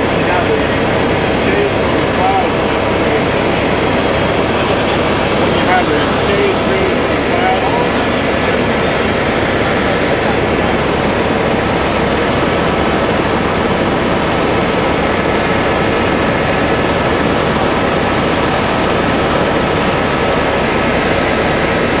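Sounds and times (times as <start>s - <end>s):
faint steady tones: 0.0s - 21.4s
aircraft cabin engine and airflow rush: 0.0s - 22.0s.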